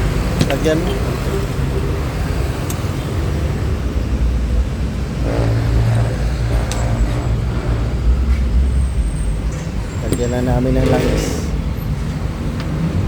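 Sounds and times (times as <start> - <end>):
road traffic rumble: 0.0 - 13.0
vehicle engine hum: 0.0 - 13.0.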